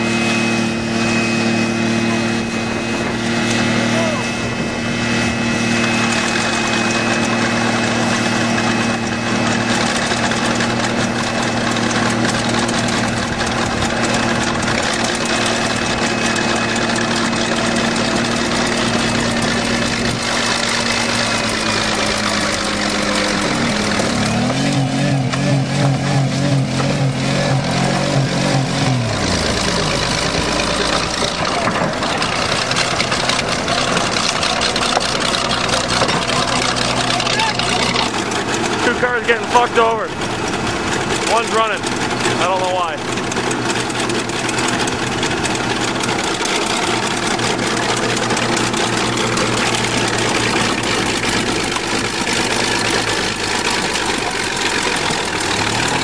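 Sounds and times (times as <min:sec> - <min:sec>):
bulldozer diesel engine: 0:00.0 - 0:56.0
car engine revving high: 0:00.0 - 0:56.0.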